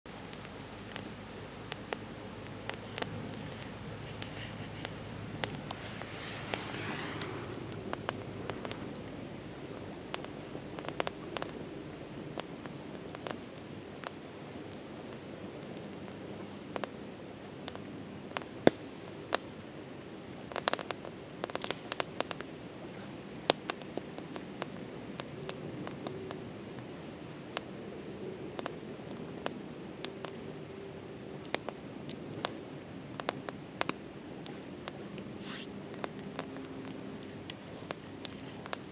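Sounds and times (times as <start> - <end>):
campfire crackling and popping: 0.1 - 38.9
low background noise: 0.1 - 38.9.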